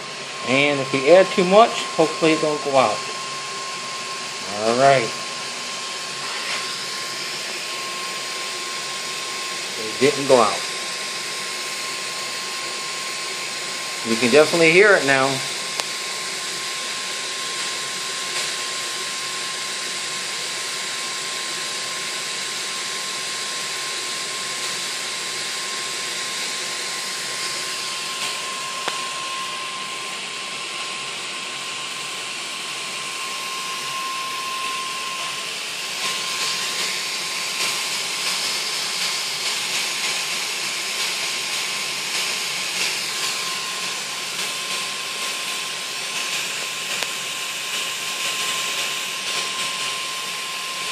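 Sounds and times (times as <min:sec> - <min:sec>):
gas burner hissing: 0:00.0 - 0:50.9.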